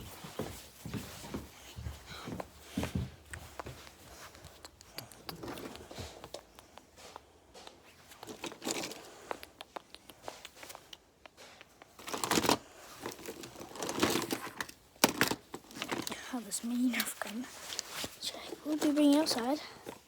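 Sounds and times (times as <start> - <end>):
rustling and handling noises: 0.0 - 20.0.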